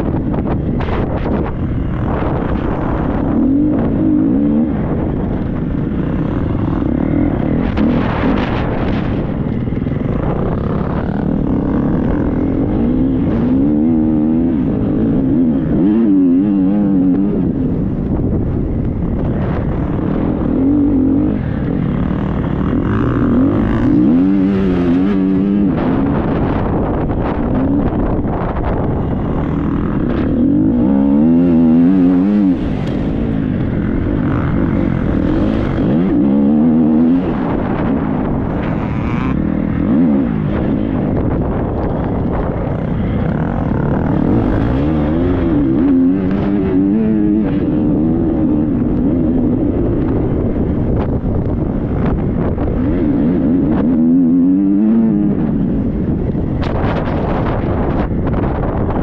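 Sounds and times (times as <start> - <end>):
motocross bike engine revving: 0.0 - 58.8.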